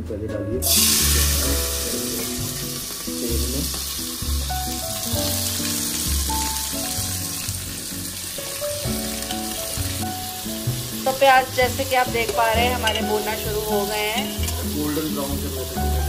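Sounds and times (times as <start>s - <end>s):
background music: 0.0s - 16.0s
onions sizzling in oil: 0.6s - 16.0s.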